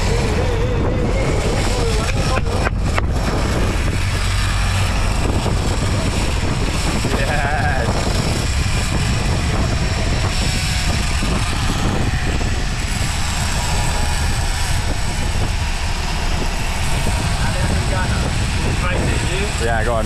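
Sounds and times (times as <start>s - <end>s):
water rushing from wake: 0.0s - 19.6s
boat engine running: 0.0s - 20.0s.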